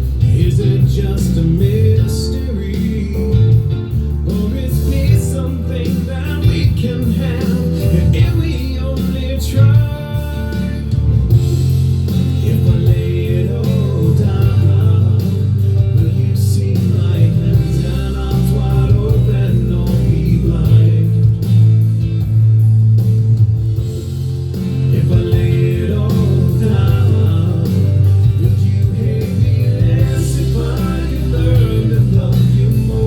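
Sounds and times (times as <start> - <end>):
person singing: 0.0 - 22.0, 24.5 - 33.0
guitar: 0.0 - 33.0
low bass notes: 0.0 - 33.0.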